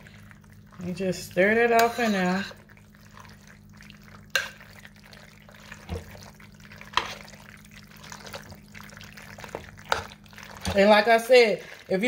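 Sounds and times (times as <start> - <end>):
spoon stirring thick sauce: 0.0 - 12.0.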